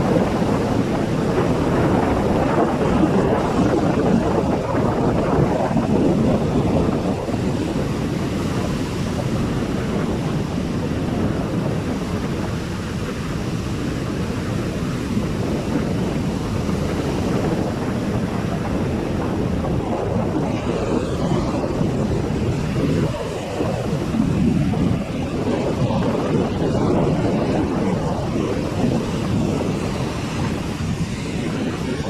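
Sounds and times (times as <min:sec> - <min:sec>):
sea surf rushing: 0:00.0 - 0:32.0
wind buffeting microphone: 0:00.0 - 0:32.0.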